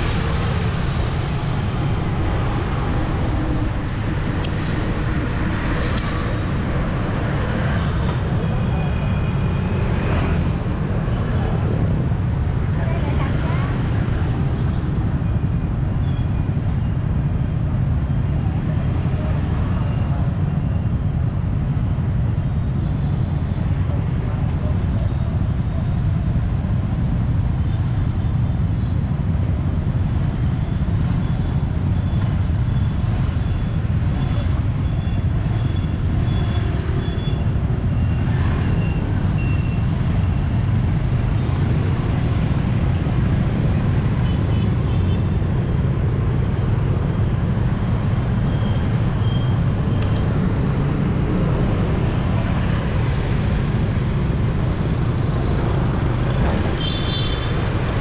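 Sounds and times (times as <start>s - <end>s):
motorbikes and cars passing: 0.0s - 58.0s.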